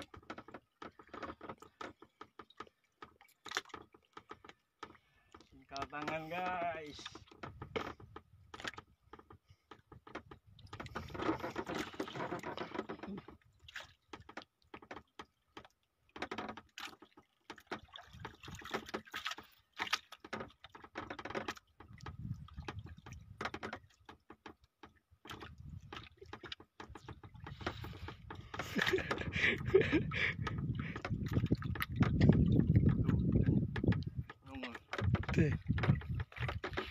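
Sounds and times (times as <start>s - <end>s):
knocks and clicks on a boat: 0.0s - 36.9s.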